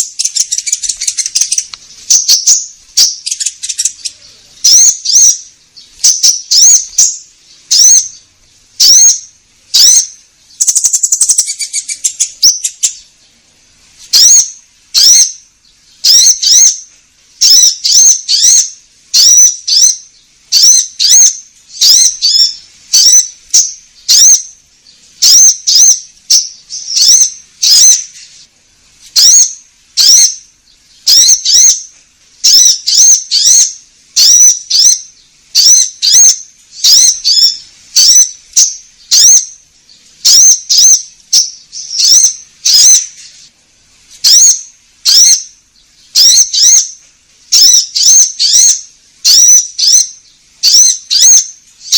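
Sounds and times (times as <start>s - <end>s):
songbird whistled calls: 0.0s - 13.2s, 14.1s - 28.4s, 29.1s - 43.5s, 44.2s - 51.9s
bird buzzy chatter: 0.0s - 28.5s, 29.1s - 51.9s.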